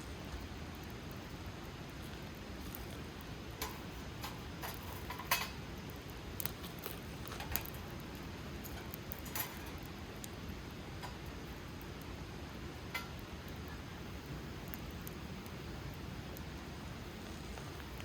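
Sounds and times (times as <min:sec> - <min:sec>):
campfire crackling: 0:00.0 - 0:18.0
low rush of flames: 0:00.0 - 0:18.0.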